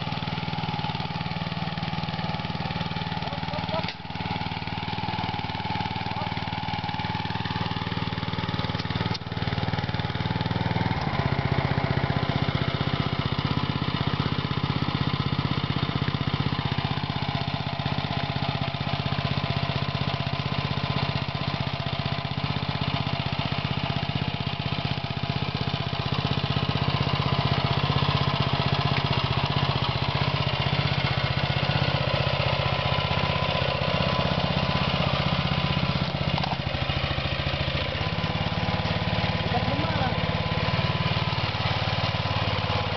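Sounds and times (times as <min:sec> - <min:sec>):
small petrol engine running: 0:00.0 - 0:42.9.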